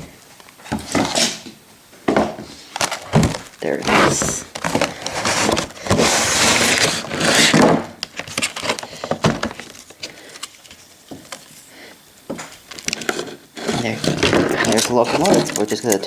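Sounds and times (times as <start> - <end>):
packaging rustling and crinkling: 2.1 - 16.0.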